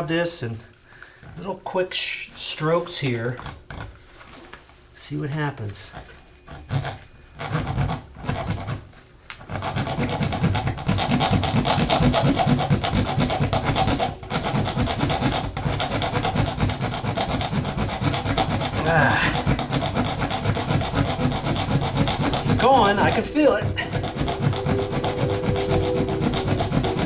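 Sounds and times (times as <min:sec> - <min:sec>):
hacksaw rasping through nail: 0:03.4 - 0:04.0, 0:05.9 - 0:27.0.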